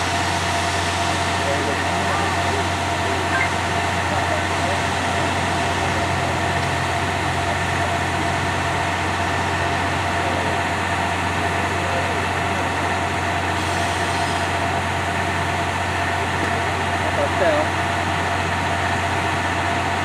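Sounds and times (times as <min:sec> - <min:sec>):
railcar engine humming: 0:00.0 - 0:20.0.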